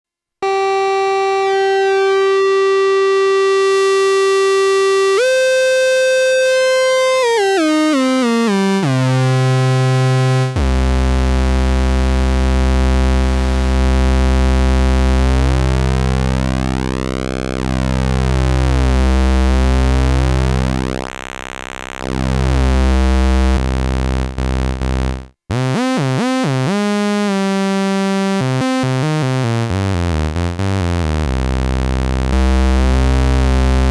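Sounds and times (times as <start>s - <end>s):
deep synth bass drone: 2.4s - 25.9s, 29.0s - 33.9s.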